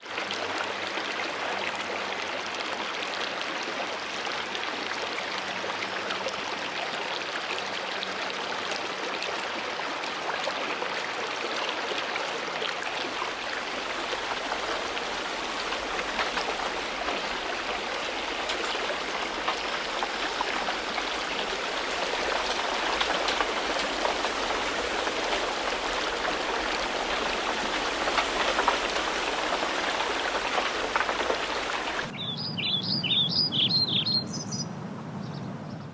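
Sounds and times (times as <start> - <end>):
running water splashing: 0.0 - 35.9.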